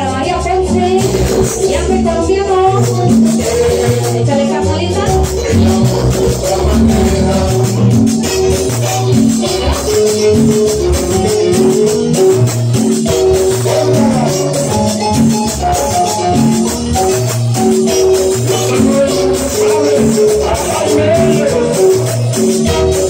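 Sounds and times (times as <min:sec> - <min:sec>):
cumbia music over sound system: 0:00.0 - 0:23.0.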